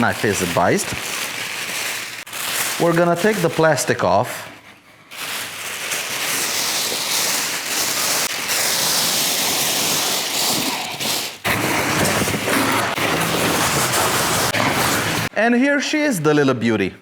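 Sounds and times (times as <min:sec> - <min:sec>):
plastic wrap crinkling and tearing: 0:00.0 - 0:04.2, 0:05.1 - 0:15.3.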